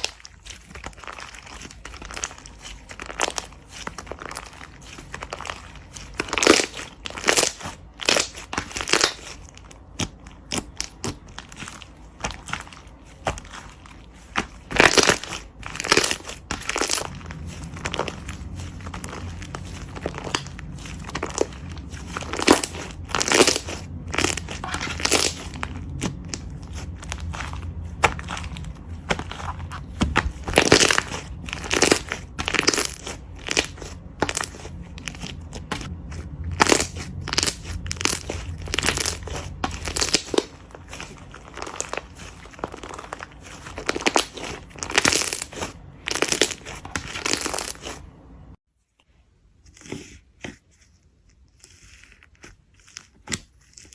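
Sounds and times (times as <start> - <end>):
slime crackling and popping: 0.0 - 48.1.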